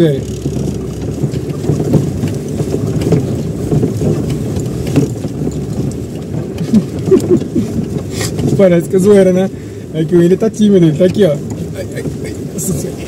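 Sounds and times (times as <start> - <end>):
car engine and tyre rumble: 0.0 - 13.0
car knocks and rattles: 0.0 - 13.0.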